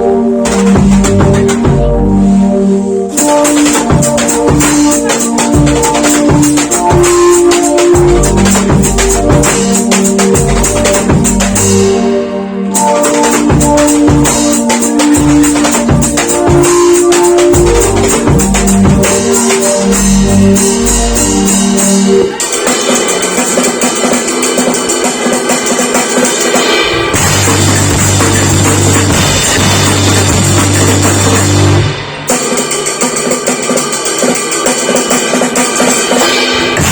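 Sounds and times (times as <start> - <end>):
music track with bass line: 0.0 - 23.1, 26.6 - 32.7, 36.2 - 36.9
drum kit playing: 0.0 - 36.9.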